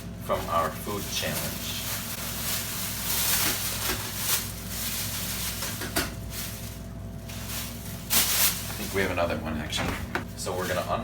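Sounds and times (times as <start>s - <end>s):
paper wrappers crinkling: 0.4s - 11.0s.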